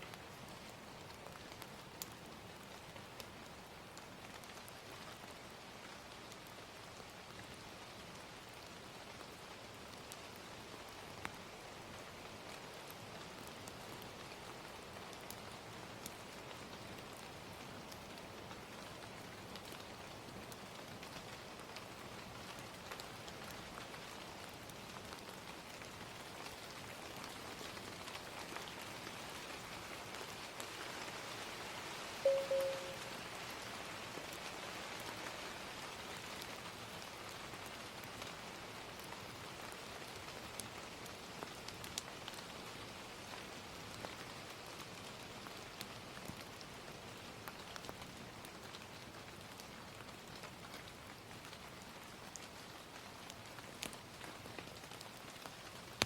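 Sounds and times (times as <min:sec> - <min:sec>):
gentle rain falling: 0:00.0 - 0:56.0
fire crackling: 0:00.1 - 0:06.5, 0:08.6 - 0:31.6, 0:37.8 - 0:56.0.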